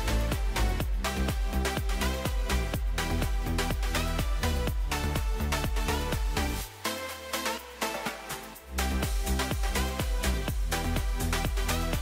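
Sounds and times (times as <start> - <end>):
deep bass: 0.0 - 6.9, 8.5 - 12.0
background music with steady beat: 0.0 - 12.0.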